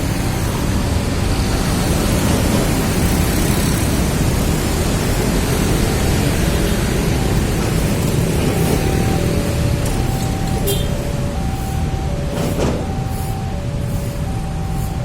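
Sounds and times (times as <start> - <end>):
train passing rumble: 0.0 - 15.0.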